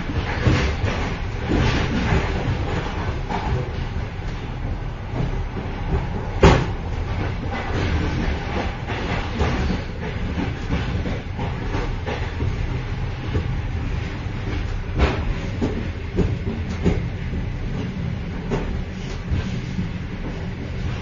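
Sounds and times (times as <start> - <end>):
train rumble and clatter: 0.0 - 21.0.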